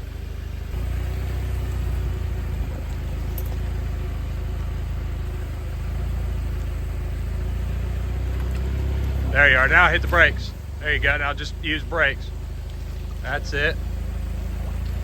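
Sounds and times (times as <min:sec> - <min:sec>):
engine idling low rumble: 0:00.0 - 0:15.0.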